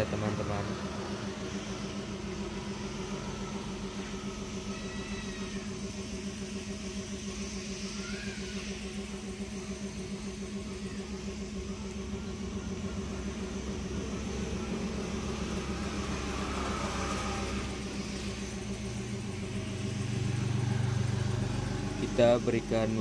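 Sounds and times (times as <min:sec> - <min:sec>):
deeper drone: 0:00.0 - 0:23.0
motor humming: 0:00.0 - 0:23.0.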